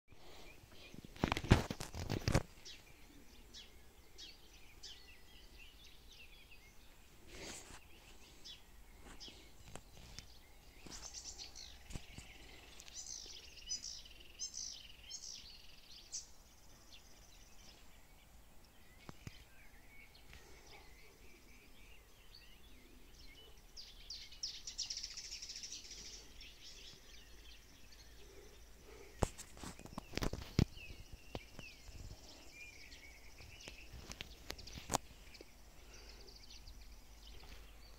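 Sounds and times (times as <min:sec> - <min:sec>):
songbirds singing: 0:00.1 - 0:37.9.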